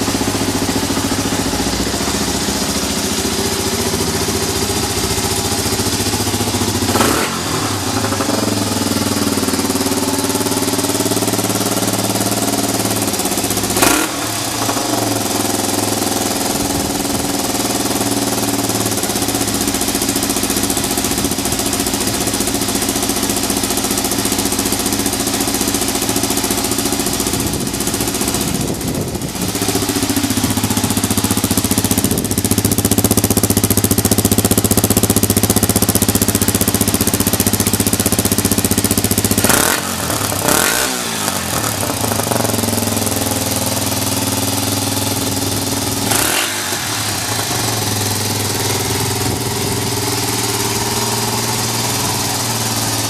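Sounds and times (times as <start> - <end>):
engine throttle blips: 0.0 - 53.0
motorcycle engine idling: 0.0 - 53.0.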